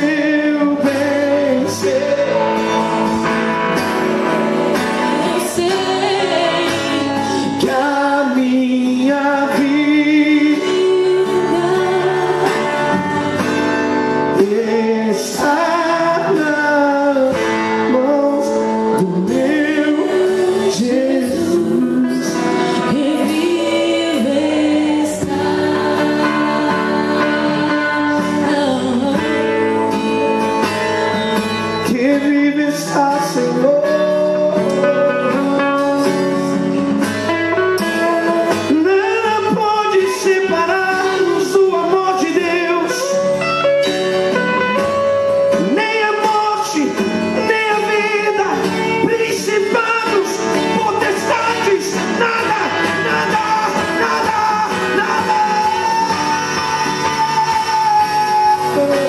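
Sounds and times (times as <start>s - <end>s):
guitar: 0.0s - 59.0s
voices singing over a band: 0.0s - 59.0s.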